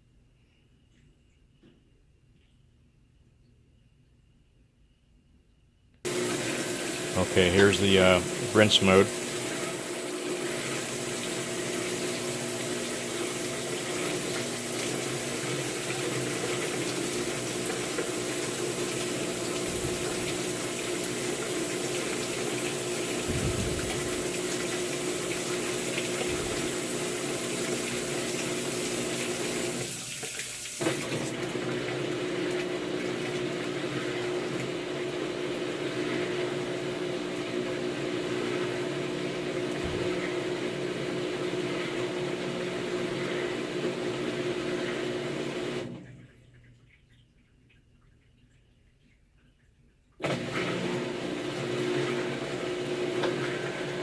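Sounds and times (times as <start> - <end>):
washing machine hum: 6.0 - 54.0
water rushing into washer tub: 6.1 - 54.0.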